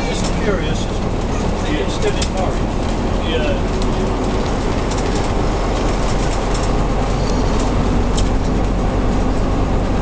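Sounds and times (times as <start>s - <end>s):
diesel bus engine running: 0.0s - 10.0s
road noise: 0.0s - 10.0s.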